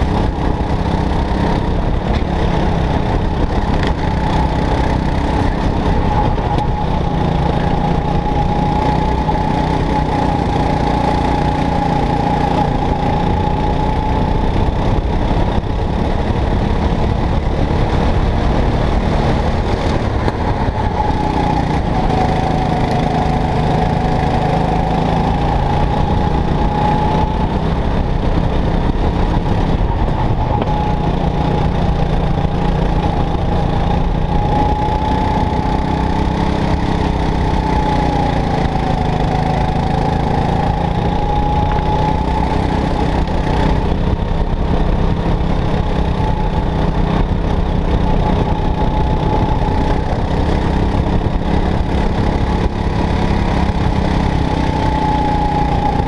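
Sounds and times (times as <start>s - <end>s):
go-kart engine whining: 0.0s - 56.0s.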